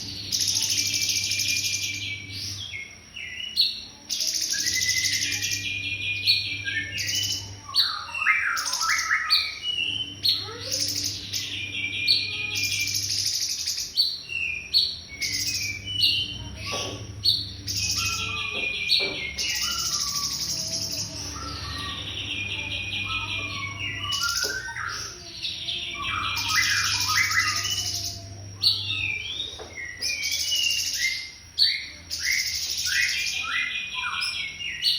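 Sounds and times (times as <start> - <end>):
bird chirps and whistles: 0.0 - 34.9
bird singing trilled phrases: 0.0 - 34.9.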